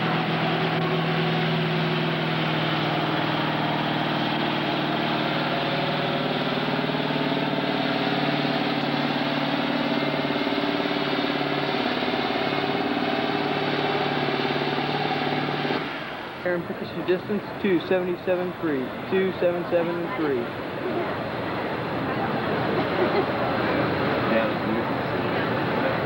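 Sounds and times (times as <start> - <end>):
tractor engine running hard: 0.0 - 26.0.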